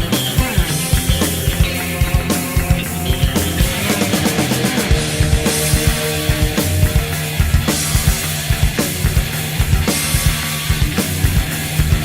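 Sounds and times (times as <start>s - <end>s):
metal band playing: 0.0s - 12.0s
rapid bass drum strokes: 0.0s - 12.0s.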